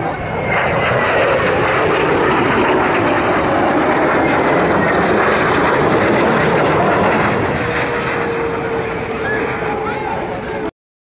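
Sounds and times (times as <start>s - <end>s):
jet flying past: 0.0s - 10.7s.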